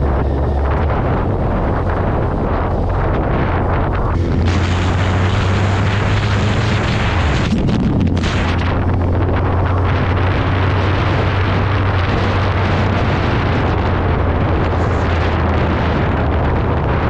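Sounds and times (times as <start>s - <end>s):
motorcycle engine drone: 0.0s - 17.0s
wind rush on microphone: 0.0s - 17.0s.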